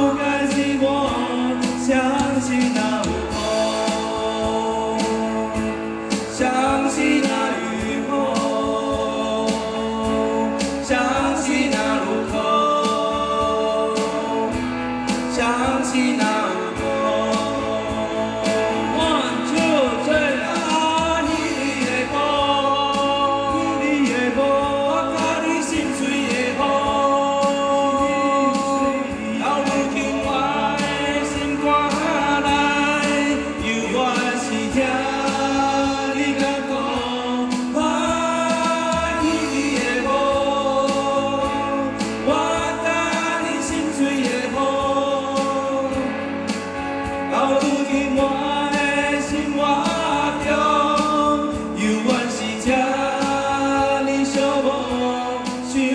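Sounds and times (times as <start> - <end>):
acoustic guitars: 0.0 - 55.9
electric bass: 0.0 - 55.9
men singing together: 0.0 - 55.9.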